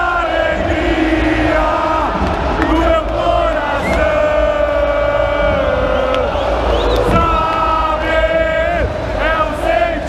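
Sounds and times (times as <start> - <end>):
football crowd chanting: 0.0 - 10.0.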